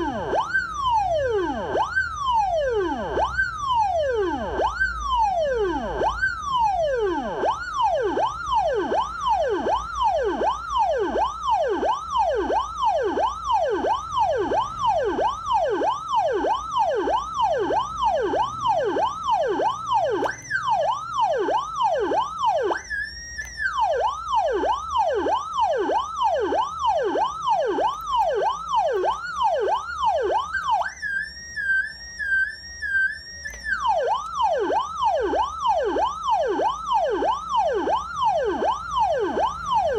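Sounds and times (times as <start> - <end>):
electronic siren yelping: 0.0 - 39.9
high warbling siren tone: 0.0 - 39.9.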